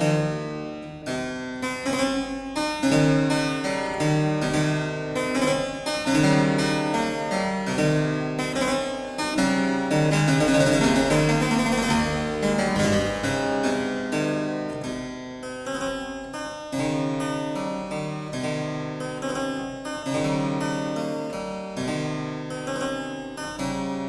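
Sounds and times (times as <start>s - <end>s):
harpsichord playing: 0.0s - 24.0s.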